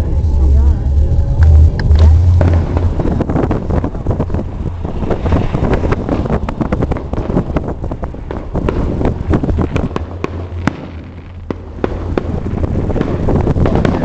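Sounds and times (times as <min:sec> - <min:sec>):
low car rumble: 0:00.0 - 0:14.0
fireworks popping and crackling: 0:01.8 - 0:14.0.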